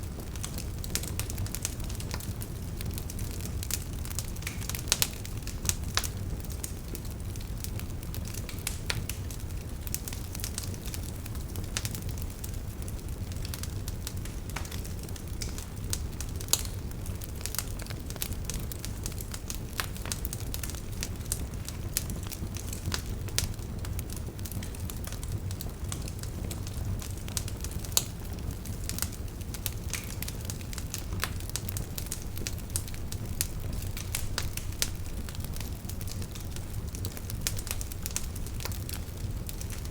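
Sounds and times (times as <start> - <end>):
burning wood crackling and popping: 0.0 - 39.9
low rumble of flames: 0.0 - 39.9.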